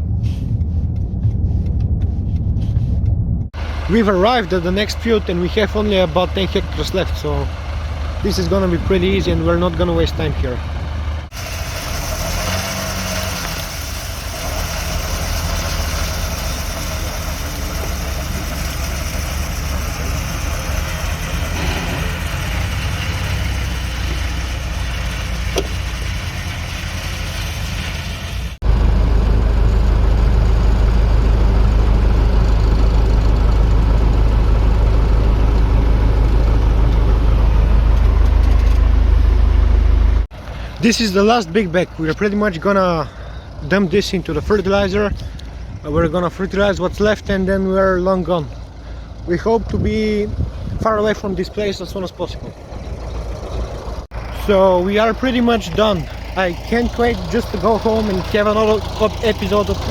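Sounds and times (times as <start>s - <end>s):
deep engine drone: 0.0s - 59.9s
tractor engine running: 0.0s - 59.9s.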